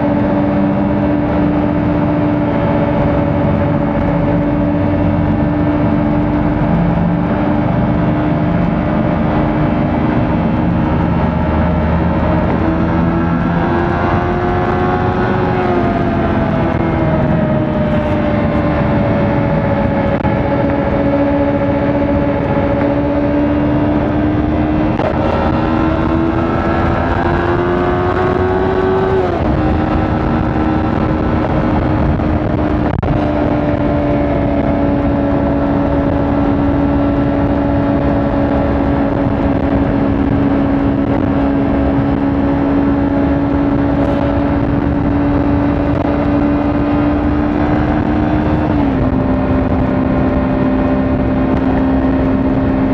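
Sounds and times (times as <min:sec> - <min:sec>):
motorcycle engine running: 0:00.0 - 0:52.9
steady rushing noise: 0:00.0 - 0:52.9.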